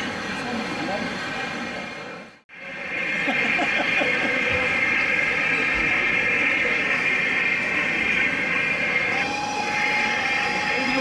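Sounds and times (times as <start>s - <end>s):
indistinct crowd chatter: 0.0s - 11.0s.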